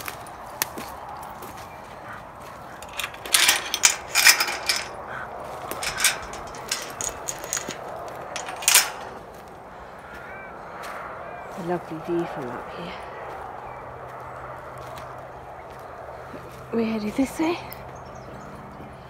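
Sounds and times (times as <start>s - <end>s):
footsteps through frosty grass: 0.0s - 19.0s.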